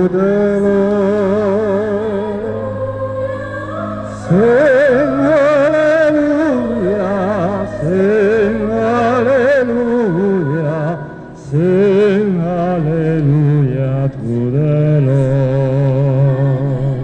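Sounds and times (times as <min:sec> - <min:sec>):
tenor singing with vibrato: 0:00.0 - 0:17.0.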